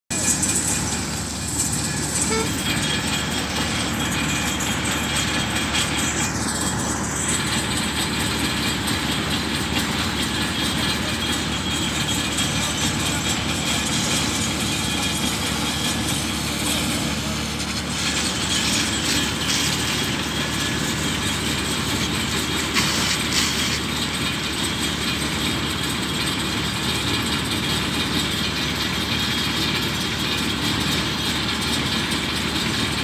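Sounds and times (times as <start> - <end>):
diesel engine rumbling: 0.1 - 33.0.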